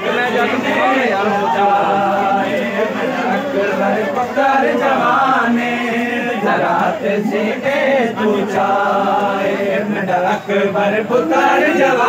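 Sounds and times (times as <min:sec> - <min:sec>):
crowd of men chanting: 0:00.0 - 0:12.0.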